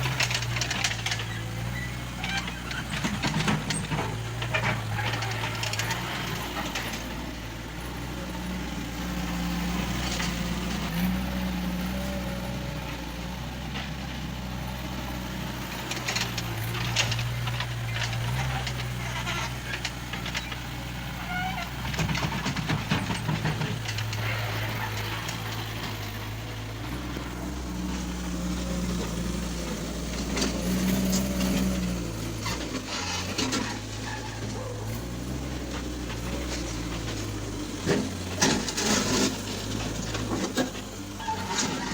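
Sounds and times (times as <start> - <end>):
backhoe diesel engine working: 0.0 - 41.9.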